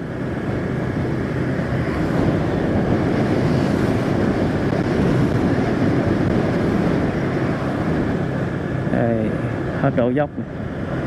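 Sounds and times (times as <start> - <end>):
vehicle engine and tyre noise: 0.0 - 11.0
wind rushing over microphone: 0.0 - 11.0.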